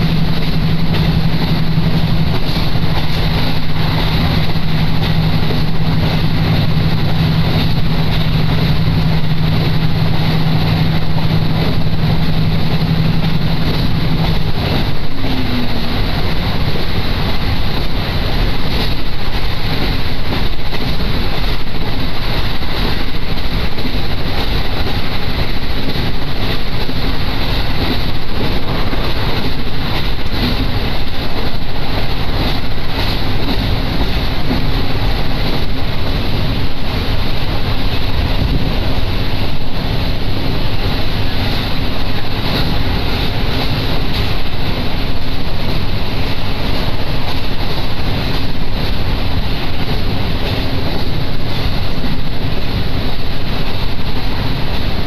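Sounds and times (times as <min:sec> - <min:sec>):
low engine hum: 0:00.0 - 0:55.0
wheels rumbling on track: 0:00.0 - 0:55.0.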